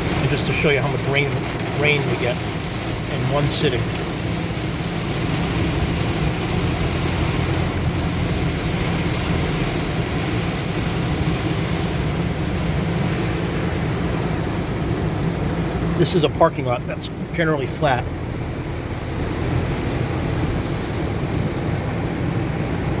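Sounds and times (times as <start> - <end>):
engine and road rumble: 0.0 - 23.0
heavy rain on a truck: 0.0 - 23.0.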